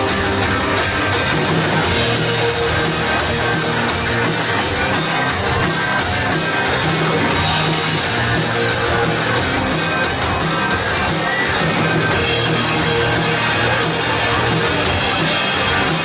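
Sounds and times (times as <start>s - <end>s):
drum kit: 0.0s - 16.0s
electric guitar: 0.0s - 16.0s
rock band playing: 0.0s - 16.0s.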